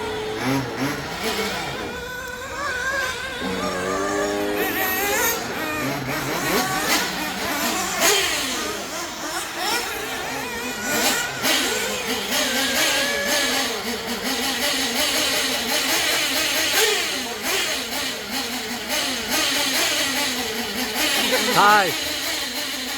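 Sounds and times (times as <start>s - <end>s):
rc car engines revving and whining: 0.0s - 22.9s.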